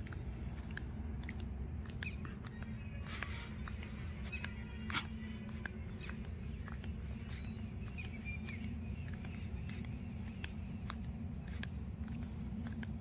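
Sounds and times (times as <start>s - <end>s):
bird chirp: 0.0s - 13.0s
low rumble: 0.0s - 13.0s.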